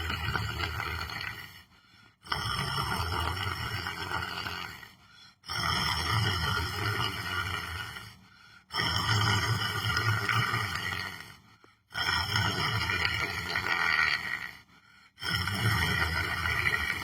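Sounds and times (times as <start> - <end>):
person snoring: 0.0 - 17.0.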